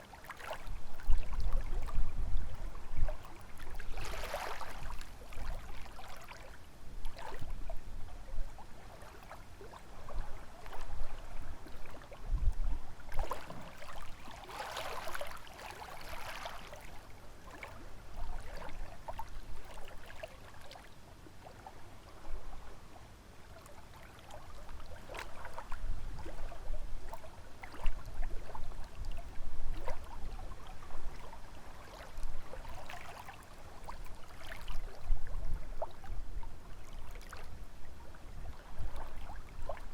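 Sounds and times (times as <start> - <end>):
lake waves lapping: 0.0 - 12.2, 13.0 - 22.8, 23.5 - 39.9
low rumble of wind: 0.0 - 39.9.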